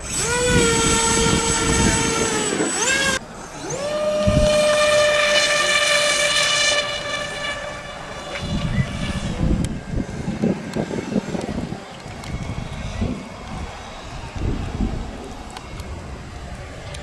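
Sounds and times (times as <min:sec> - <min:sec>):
electric motor and propeller whining: 0:00.0 - 0:17.0.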